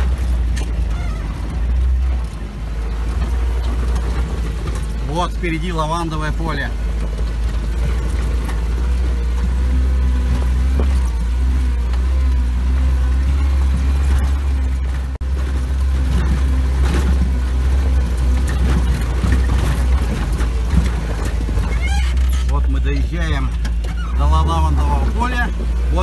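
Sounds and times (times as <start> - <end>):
off-road vehicle engine droning: 0.0 - 26.0.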